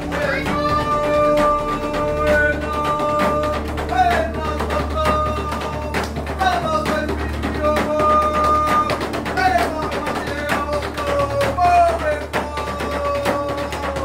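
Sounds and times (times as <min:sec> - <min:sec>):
drum beats: 0:00.0 - 0:14.0
voices holding long notes: 0:00.0 - 0:14.0.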